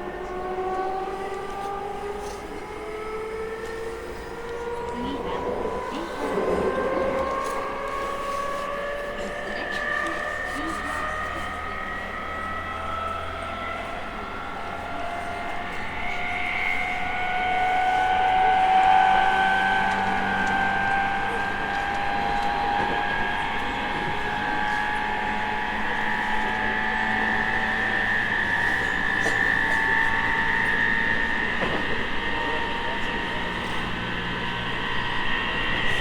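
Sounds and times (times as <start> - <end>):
electric train motors whining: 0.0 - 36.0
train running rumble: 0.0 - 36.0.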